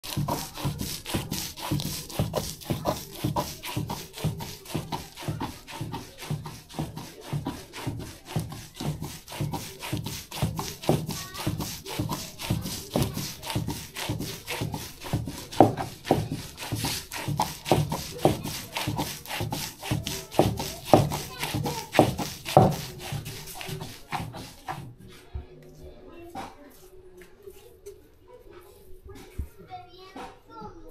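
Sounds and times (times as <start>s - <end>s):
stone scraping on grinding stone: 0.0s - 24.8s.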